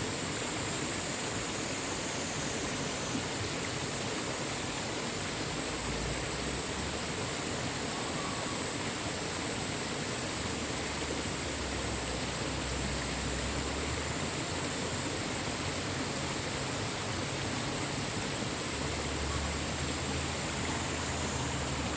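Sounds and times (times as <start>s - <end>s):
stream rushing: 0.0s - 21.9s.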